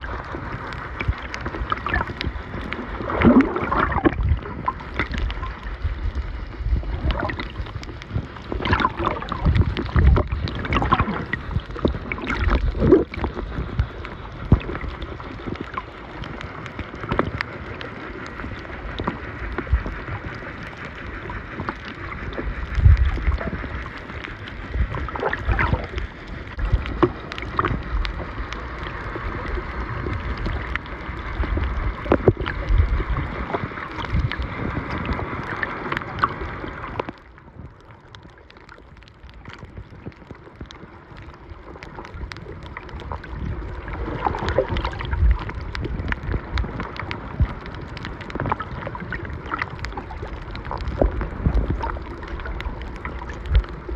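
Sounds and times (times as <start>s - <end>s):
underwater clicks and knocks: 0.0s - 53.9s
underwater water swirling: 0.0s - 53.9s.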